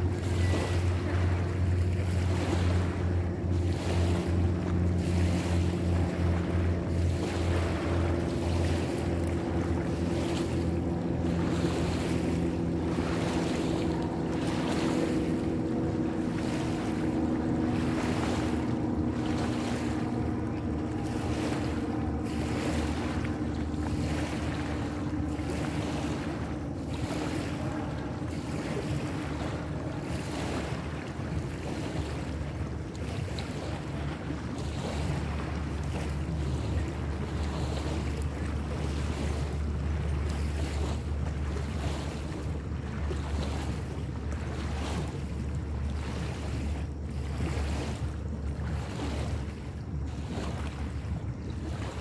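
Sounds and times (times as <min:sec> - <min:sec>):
low engine drone: 0:00.0 - 0:52.0
wind and water rushing: 0:00.0 - 0:52.0.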